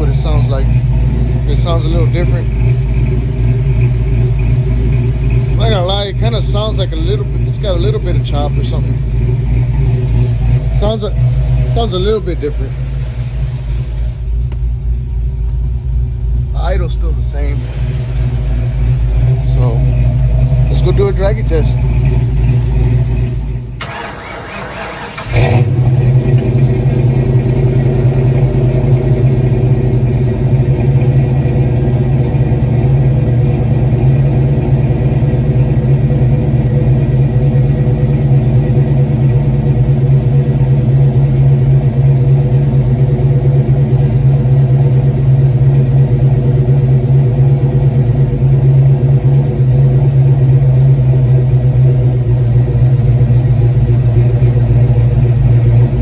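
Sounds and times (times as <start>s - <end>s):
loud car engine running: 0.0s - 56.0s.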